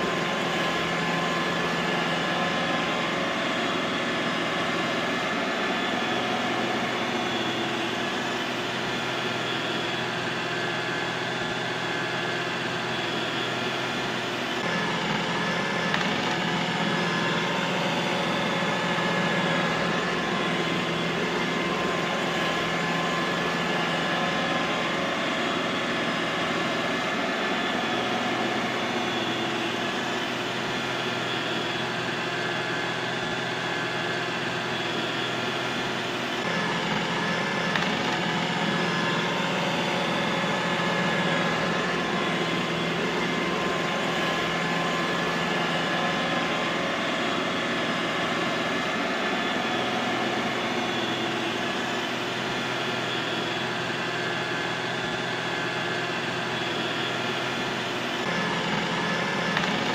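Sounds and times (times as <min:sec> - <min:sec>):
robot vacuum cleaner whirring: 0:00.0 - 0:59.9.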